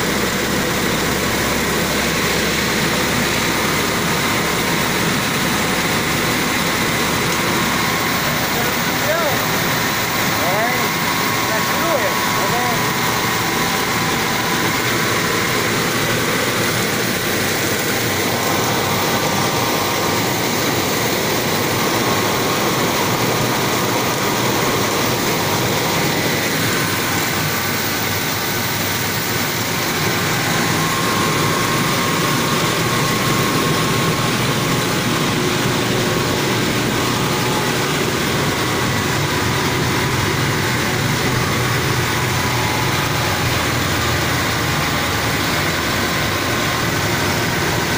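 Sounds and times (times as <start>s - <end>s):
faint steady whine: 0.0s - 47.9s
rice mill mechanical din: 0.0s - 47.9s.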